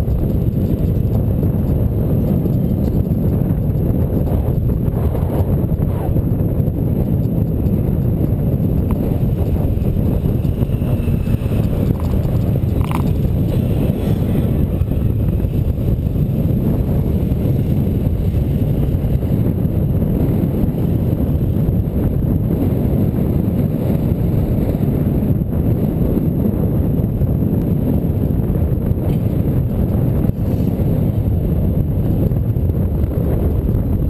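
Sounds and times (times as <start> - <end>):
road rumble: 0.0 - 34.0
wind rush on microphone: 0.0 - 34.0.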